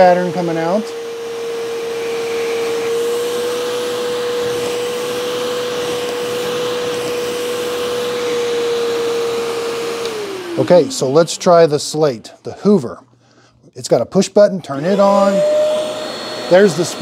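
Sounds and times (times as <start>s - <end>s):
suction motor whine: 0.0s - 12.0s, 14.8s - 17.0s.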